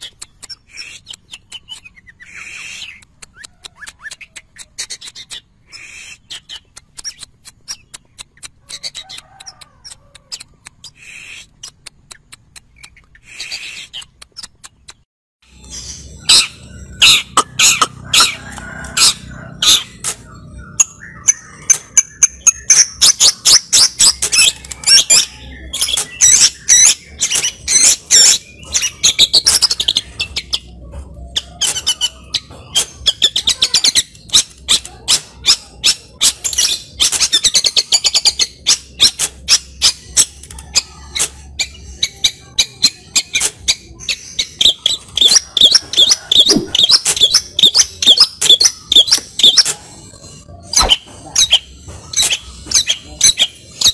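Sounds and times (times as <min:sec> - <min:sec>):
shrike singing varied song: 0:00.0 - 0:11.8, 0:15.5 - 0:53.9.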